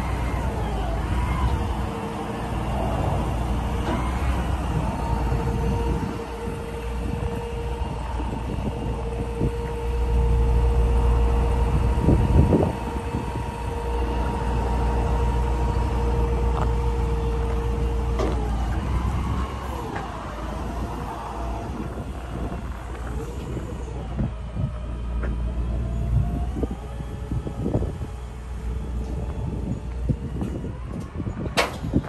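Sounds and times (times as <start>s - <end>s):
hydraulic pump whining: 0.0s - 32.0s
truck engine rumbling: 0.0s - 32.0s.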